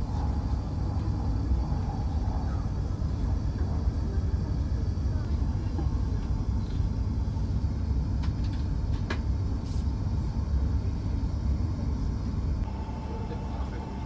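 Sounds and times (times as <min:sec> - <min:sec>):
train running at speed: 0:00.0 - 0:14.0.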